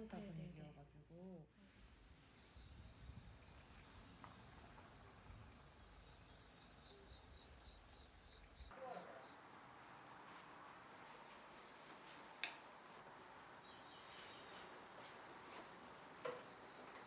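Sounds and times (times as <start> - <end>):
crickets chirping: 1.7 - 17.0.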